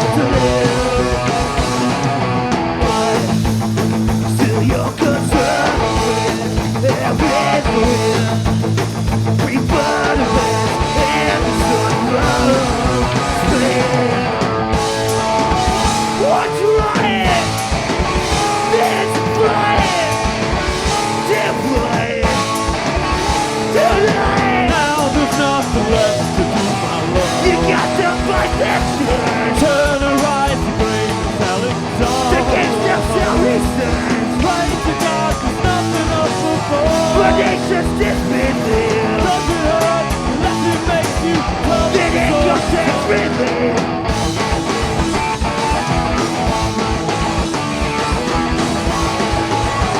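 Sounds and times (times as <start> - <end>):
person singing: 0.0 - 2.2, 2.8 - 3.5, 4.2 - 8.6, 9.4 - 44.1
punk rock band playing: 0.0 - 49.9.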